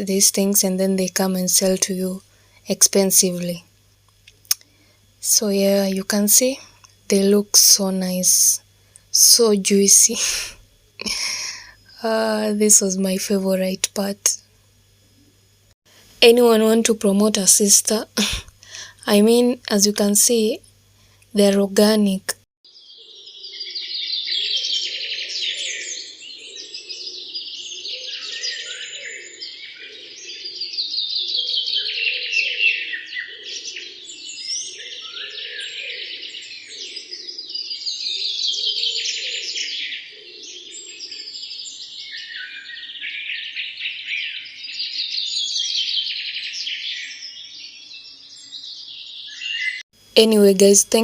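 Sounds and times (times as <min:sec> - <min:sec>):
bird song of trilled phrases: 0:00.0 - 0:03.6, 0:05.2 - 0:14.4, 0:21.4 - 0:51.0.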